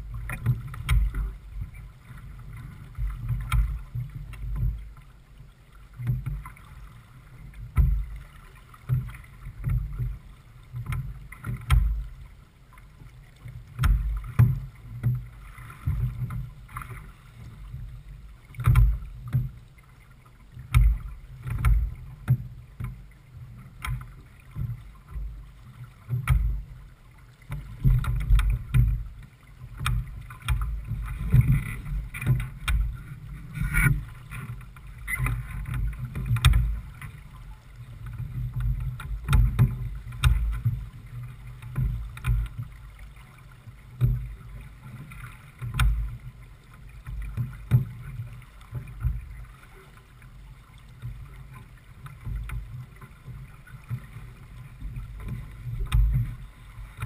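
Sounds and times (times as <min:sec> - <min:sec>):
low thumps of water and wind: 0:00.0 - 0:57.0.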